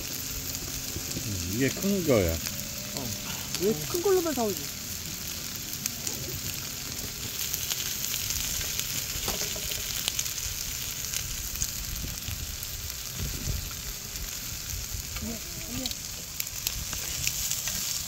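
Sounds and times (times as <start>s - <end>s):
fat spattering crackles: 0.0s - 18.0s
meat sizzling on a griddle: 0.0s - 18.0s.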